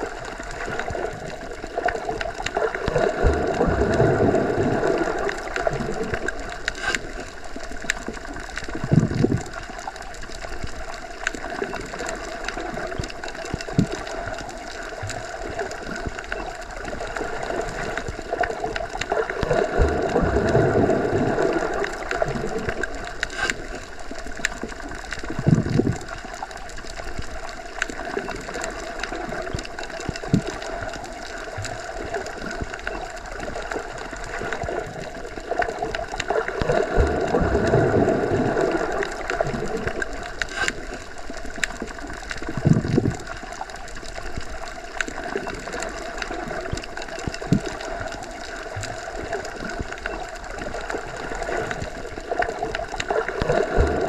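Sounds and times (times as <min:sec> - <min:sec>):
muffled underwater hum: 0:00.0 - 0:54.0.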